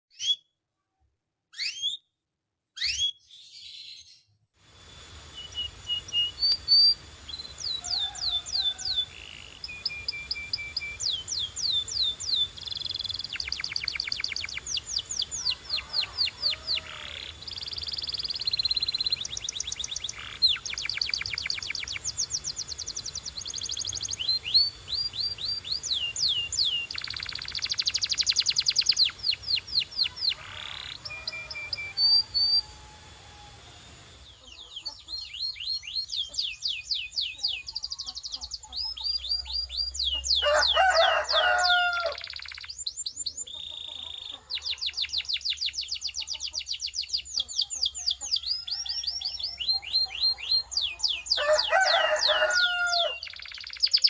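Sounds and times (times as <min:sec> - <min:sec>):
canary singing: 0:00.1 - 0:00.5, 0:01.5 - 0:02.1, 0:02.8 - 0:04.2, 0:04.8 - 0:54.0.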